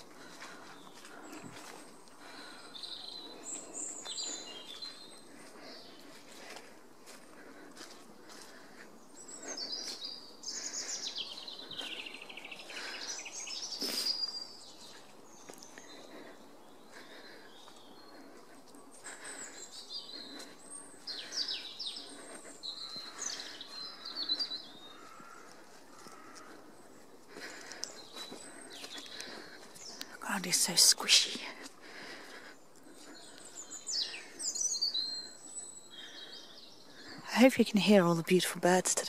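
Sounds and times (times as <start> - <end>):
songbirds trilling and warbling: 0.0 - 39.0.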